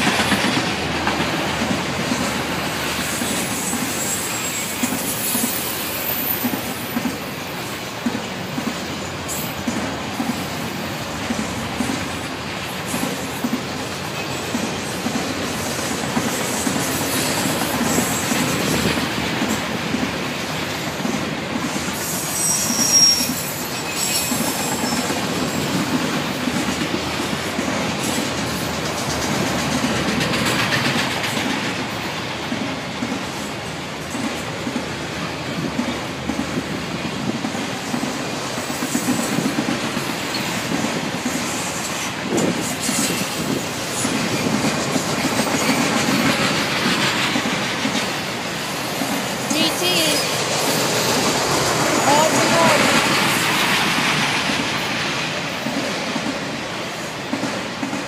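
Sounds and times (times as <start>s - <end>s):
steel wheels clattering on rail: 0.0s - 58.0s.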